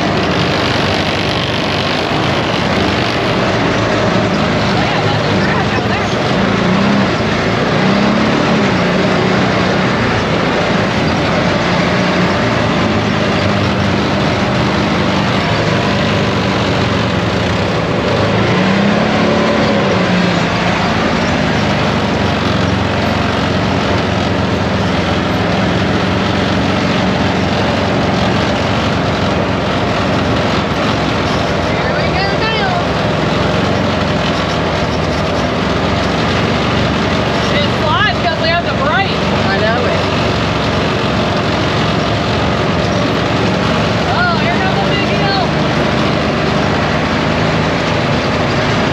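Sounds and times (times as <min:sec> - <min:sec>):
atv engine running: 0:00.0 - 0:48.9
steady rush of noise: 0:00.0 - 0:48.9.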